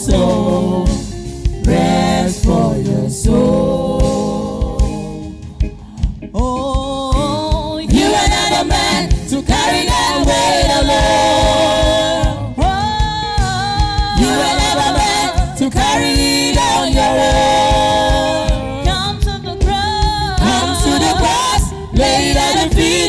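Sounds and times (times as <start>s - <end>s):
choir singing: 0.0s - 5.6s, 7.8s - 23.0s
steady low beat: 0.0s - 6.6s, 7.2s - 23.0s.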